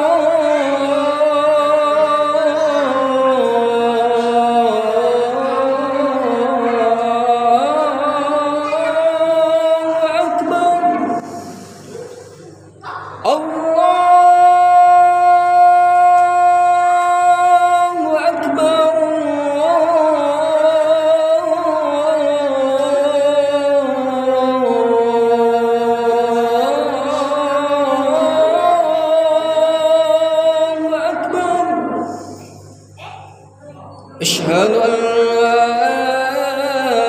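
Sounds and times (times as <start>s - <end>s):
man singing into a microphone: 0.0s - 11.5s, 13.2s - 32.3s, 34.2s - 37.0s.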